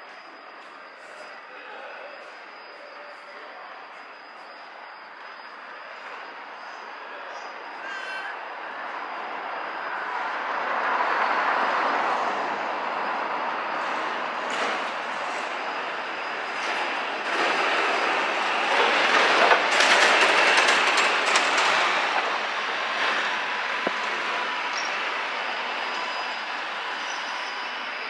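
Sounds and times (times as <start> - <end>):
rail vehicle passing: 0.0 - 28.0.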